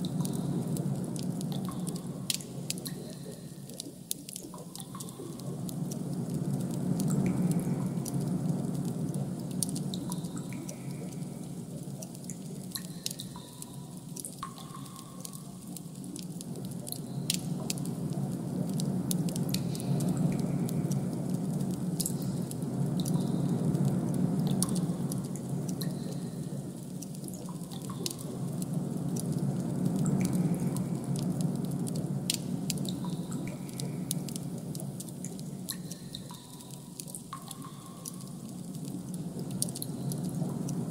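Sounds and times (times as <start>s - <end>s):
drip-like clicks: 0.0s - 40.9s
low ambient hum: 0.0s - 40.9s.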